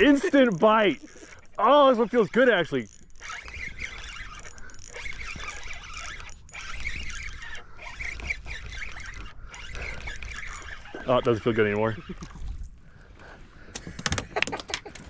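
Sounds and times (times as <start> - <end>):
gulls calling: 0.0 - 12.2.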